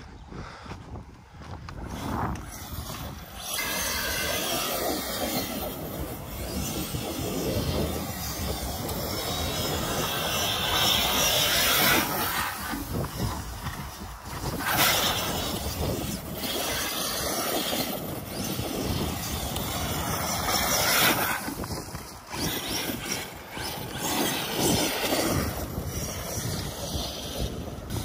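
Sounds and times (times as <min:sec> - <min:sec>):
toy truck driving over dirt: 0:01.7 - 0:28.0.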